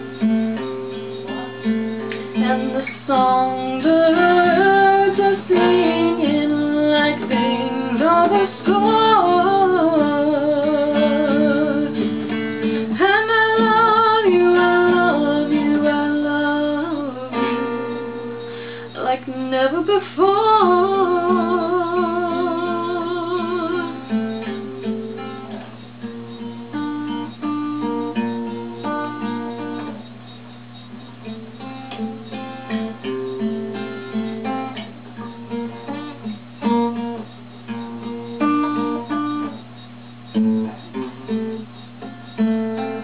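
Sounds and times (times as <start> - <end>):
acoustic guitar chords: 0.0 - 43.0.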